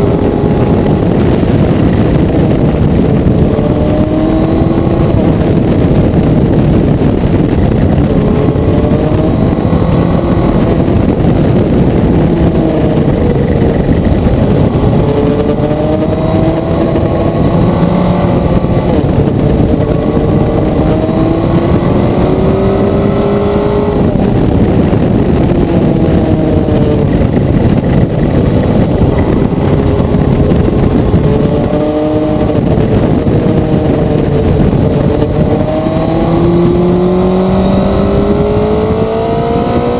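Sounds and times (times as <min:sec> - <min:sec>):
motorcycle engine revving: 0:00.0 - 0:39.9
rush of noise: 0:00.0 - 0:39.9.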